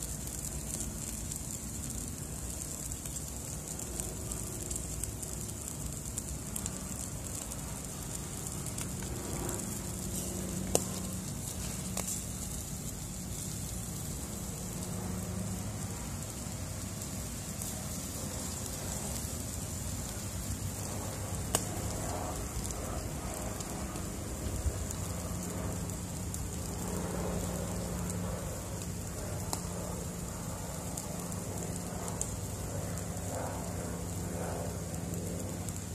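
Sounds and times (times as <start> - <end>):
fish sizzling over charcoal: 0.0 - 35.9
sharp pops and crackles: 0.0 - 35.9.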